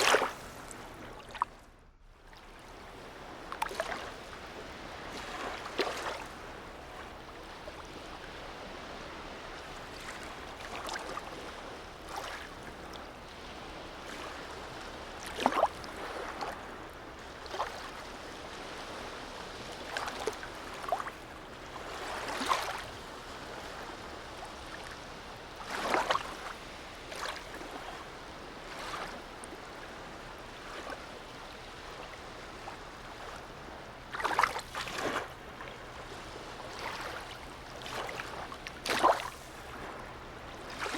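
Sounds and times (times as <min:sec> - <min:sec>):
seawater lapping: 0:00.0 - 0:40.9
small water splashes: 0:00.0 - 0:40.9.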